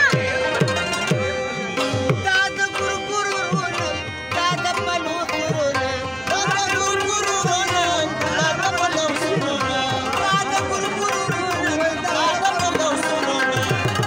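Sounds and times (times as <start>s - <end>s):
rabab and harmonium melody: 0.0s - 14.0s
tabla beat: 0.0s - 14.0s.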